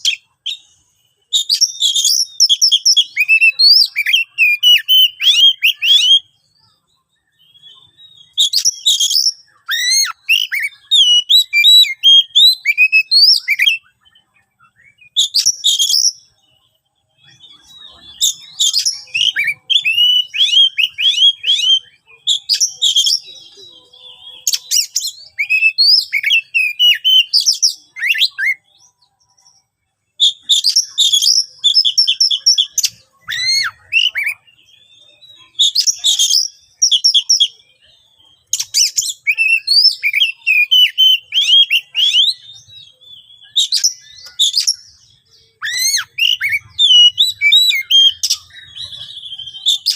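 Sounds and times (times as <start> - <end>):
bird singing chirps and whistles: 0.0 - 49.9.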